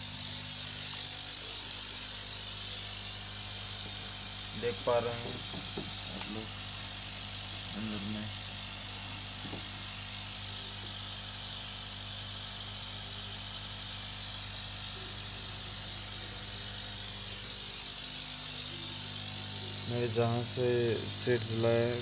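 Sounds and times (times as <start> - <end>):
air blower humming: 0.0 - 22.0.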